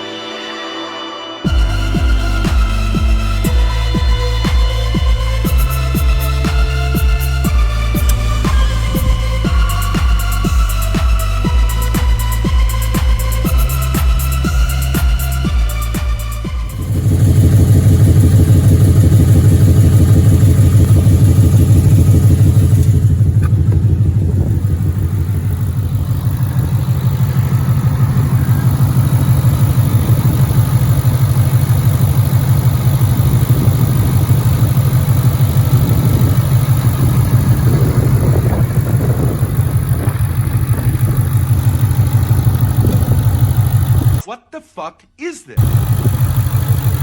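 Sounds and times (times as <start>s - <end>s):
car engine idling with ticking: 1.5s - 44.2s, 45.6s - 47.0s.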